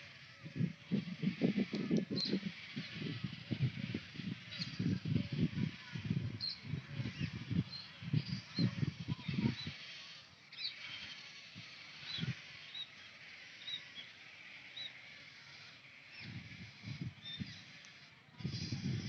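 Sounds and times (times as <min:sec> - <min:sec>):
bird chatter: 0:00.0 - 0:19.0
birds chirping: 0:00.0 - 0:19.0.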